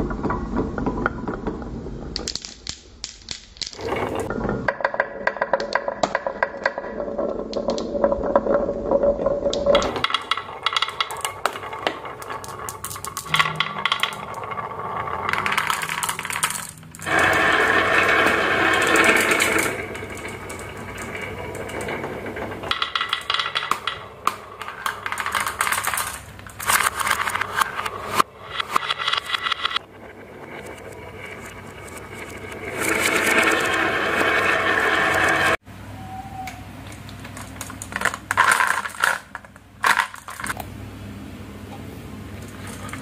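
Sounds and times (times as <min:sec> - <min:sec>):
marbles rolling on wooden tracks: 0:00.0 - 0:35.6, 0:36.9 - 0:40.6, 0:42.4 - 0:43.0.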